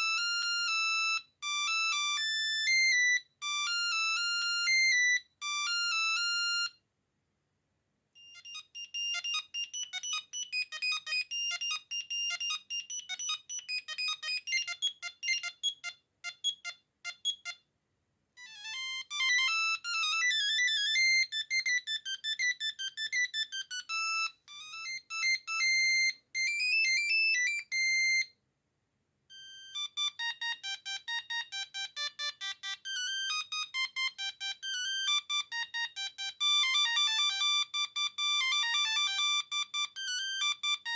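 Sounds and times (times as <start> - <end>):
mobile phone ringtone melodies: 0.0 - 6.8, 8.2 - 17.6, 18.4 - 28.3, 29.3 - 40.9.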